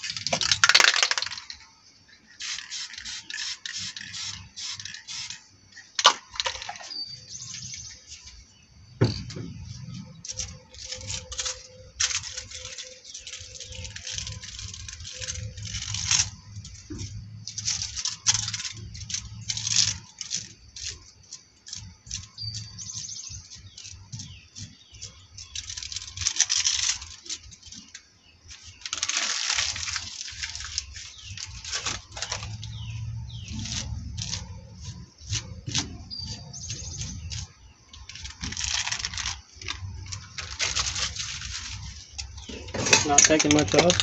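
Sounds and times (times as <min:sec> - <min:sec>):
plastic wrapping crinkling: 0:00.0 - 0:01.6, 0:09.6 - 0:44.0.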